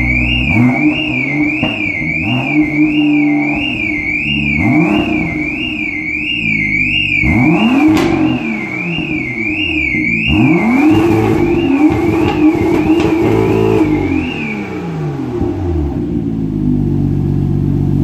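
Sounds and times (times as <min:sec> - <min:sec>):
high warbling tone: 0:00.0 - 0:15.4
car engine idling and revving: 0:00.0 - 0:18.0.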